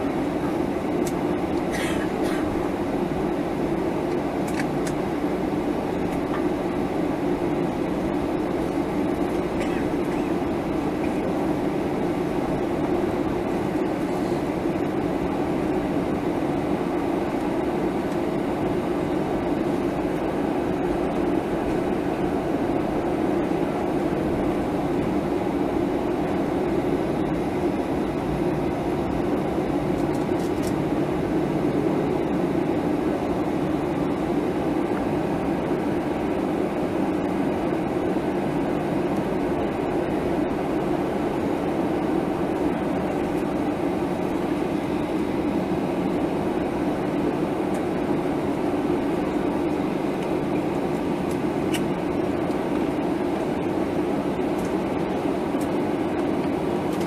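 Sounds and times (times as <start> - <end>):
airplane cabin engine drone: 0.0 - 57.0.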